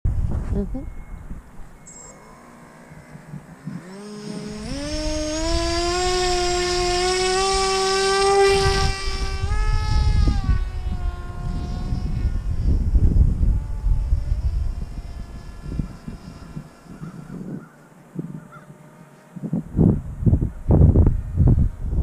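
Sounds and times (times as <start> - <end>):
electric motor and propeller whining: 0.1 - 22.0
wind buffeting microphone: 0.1 - 22.0.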